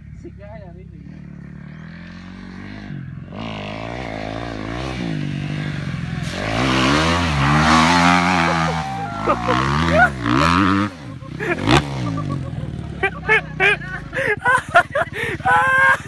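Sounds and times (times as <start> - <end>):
motocross bike engine revving: 0.9 - 16.0.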